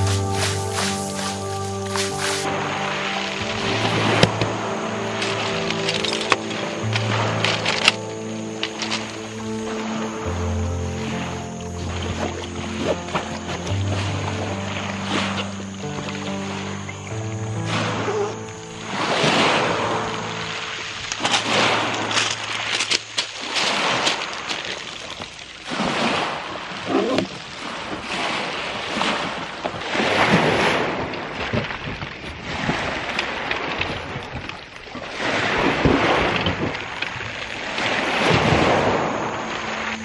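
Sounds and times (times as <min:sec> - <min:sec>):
small waves on pebble beach: 0:00.0 - 0:40.0.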